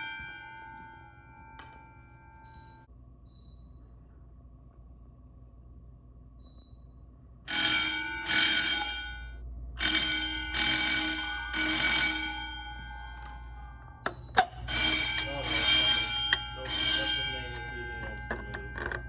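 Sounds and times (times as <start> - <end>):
fire alarm bells ringing: 0.0 - 3.8, 6.4 - 19.0.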